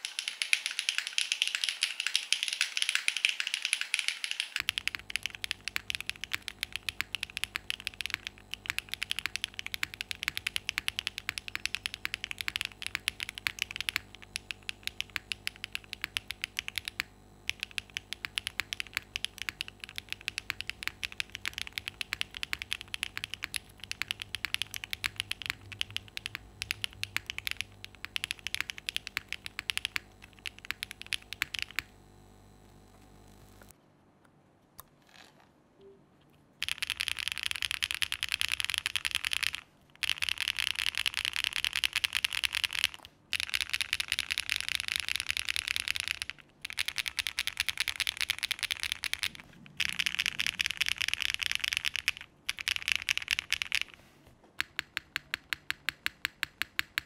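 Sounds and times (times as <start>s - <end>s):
fast mechanical keyboard typing: 0.0s - 31.9s, 36.6s - 54.0s, 54.6s - 57.0s.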